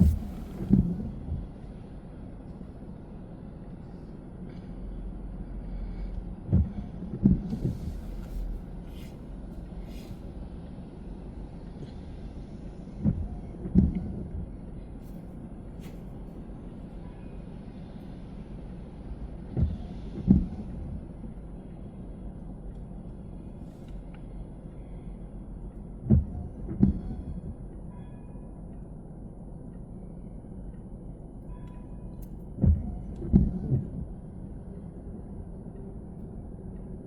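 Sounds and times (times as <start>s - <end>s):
car road rumble: 0.0s - 37.0s.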